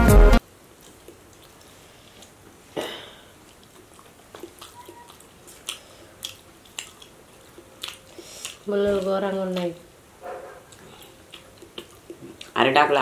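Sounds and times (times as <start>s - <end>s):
chewing smacks: 0.6s - 2.6s, 3.3s - 9.7s, 10.3s - 12.6s.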